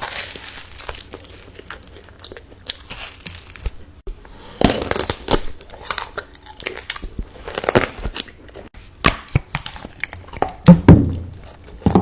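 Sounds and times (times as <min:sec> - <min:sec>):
crisp crunching and chewing: 0:00.0 - 0:12.0.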